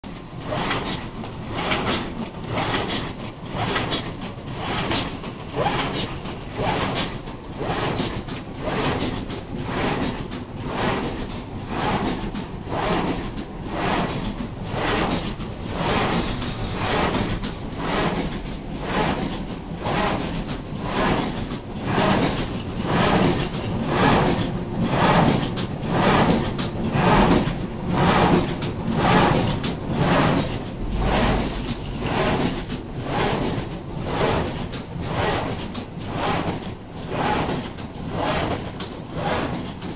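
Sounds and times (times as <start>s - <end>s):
die-cutting machine clatter: 0.0s - 39.9s.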